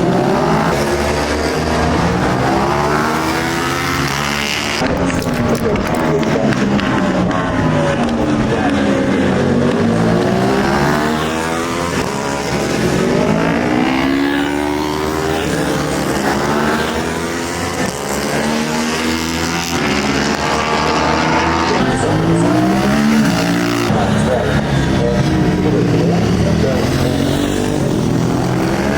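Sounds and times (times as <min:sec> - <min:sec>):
racing motorbike engines revving: 0:00.0 - 0:28.9.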